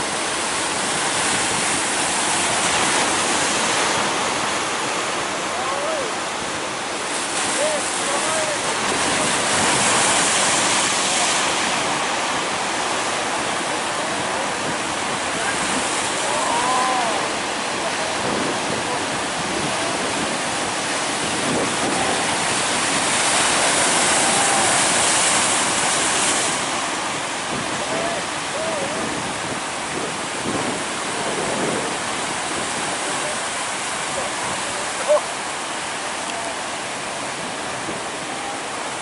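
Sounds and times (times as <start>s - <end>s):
heavy surf waves breaking: 0.0s - 39.0s.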